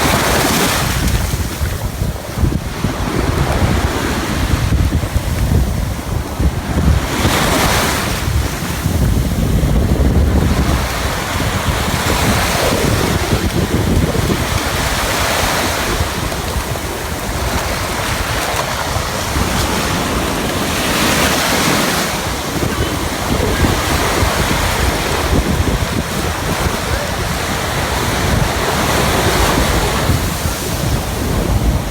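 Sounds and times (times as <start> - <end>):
ocean surf breaking: 0.0 - 31.9
wind buffeting microphone: 0.0 - 31.9.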